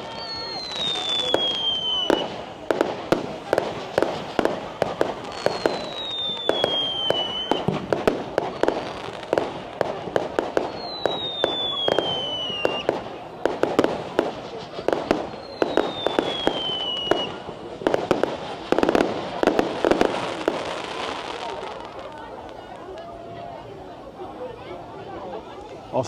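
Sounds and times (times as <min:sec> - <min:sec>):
falling firework whistles: 0:00.0 - 0:22.7
fireworks bangs and crackles: 0:00.0 - 0:26.0.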